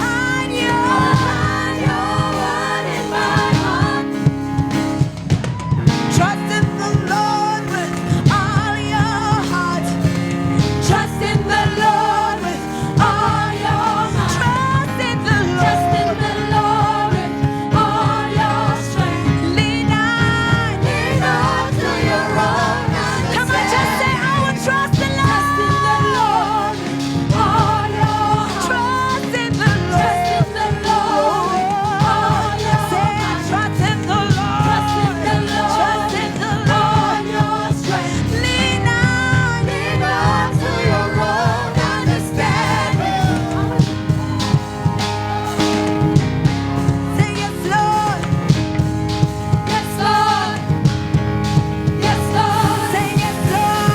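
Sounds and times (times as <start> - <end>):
gospel band playing: 0.0 - 53.9
singers leading praise song: 0.0 - 53.9.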